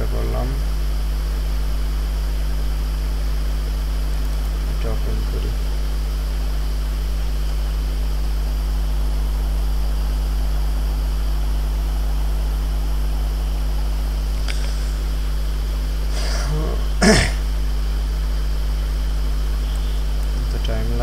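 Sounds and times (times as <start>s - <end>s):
low electrical hum: 0.0s - 21.0s
recording hiss: 0.0s - 21.0s.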